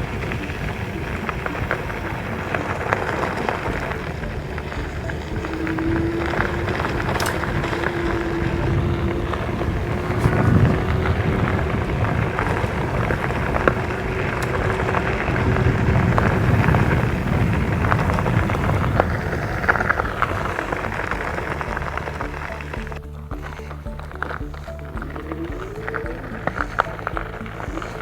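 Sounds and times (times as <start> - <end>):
bike tires crunching on gravel: 0.0 - 28.0
small stones popping: 0.0 - 28.0.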